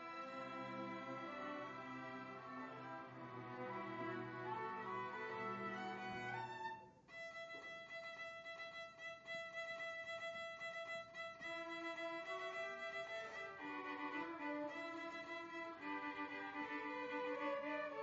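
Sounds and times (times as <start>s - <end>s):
solo violin: 0.0s - 18.0s
string orchestra: 0.0s - 18.0s.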